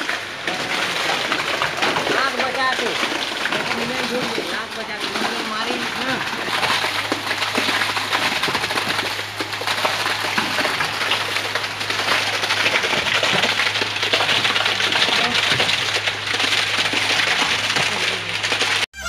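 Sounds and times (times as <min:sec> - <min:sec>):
concrete vibrator engine hum: 0:00.0 - 0:18.9.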